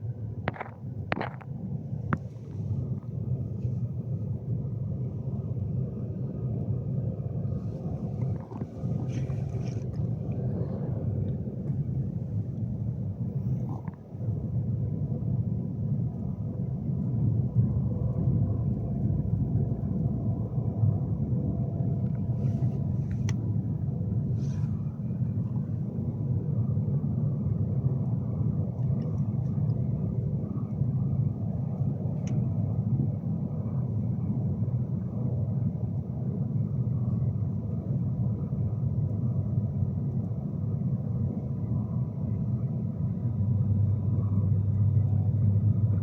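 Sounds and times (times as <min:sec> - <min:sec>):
electric train rumble from inside: 0:00.0 - 0:46.0.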